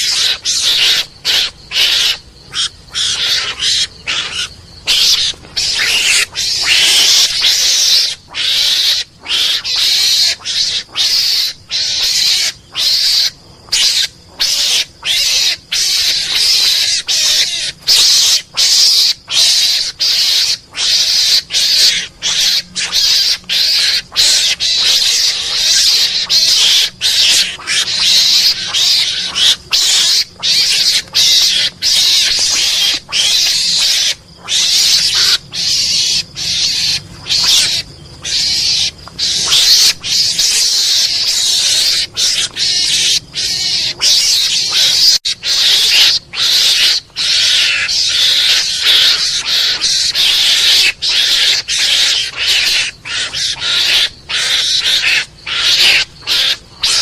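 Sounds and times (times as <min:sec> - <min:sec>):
harsh hissing mongoose calls: 0:00.0 - 0:57.0.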